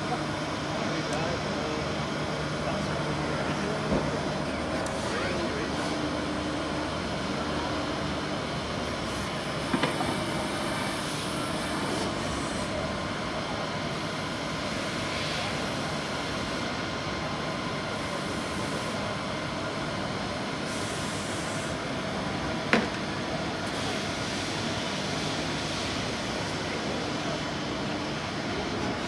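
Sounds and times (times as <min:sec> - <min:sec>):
lathe machining metal: 0:00.0 - 0:29.0.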